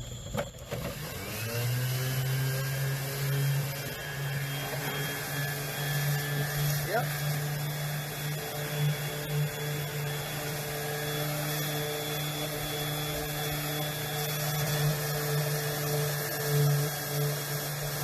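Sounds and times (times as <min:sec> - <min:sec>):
power sander running: 0:00.0 - 0:18.0.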